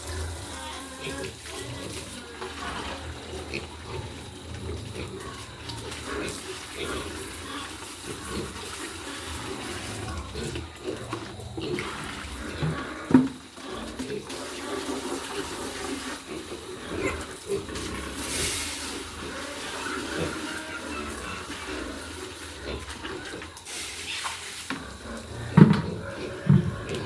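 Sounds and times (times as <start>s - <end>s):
hiss of water: 0.0s - 27.0s
pigs grunting: 0.0s - 27.0s
water splashing and running: 0.0s - 27.0s.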